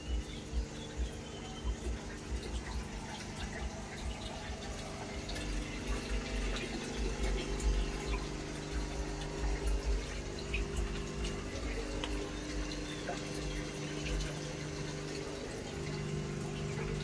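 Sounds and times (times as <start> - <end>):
low electrical hum: 0.0 - 17.0
water trickling and dripping: 0.0 - 17.0.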